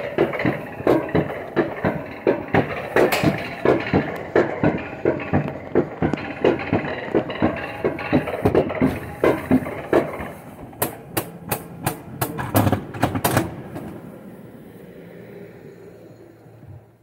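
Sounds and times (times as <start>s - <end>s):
sharp metallic clacks: 0.0s - 14.0s
sled knocking on steel track: 0.0s - 14.2s.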